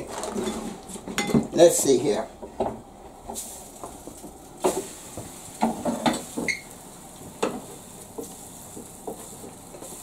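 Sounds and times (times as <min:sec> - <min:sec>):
faint frying hiss: 0:00.0 - 0:10.0.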